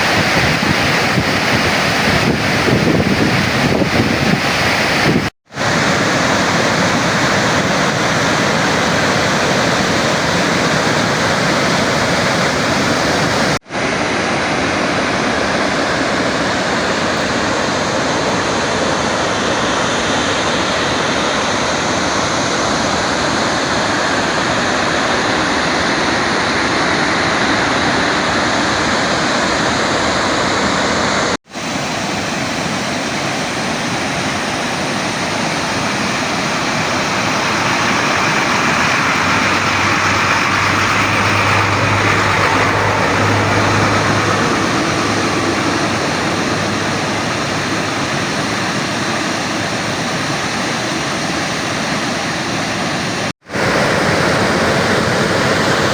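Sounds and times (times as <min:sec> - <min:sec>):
rush of falling water: 0:00.0 - 0:55.9.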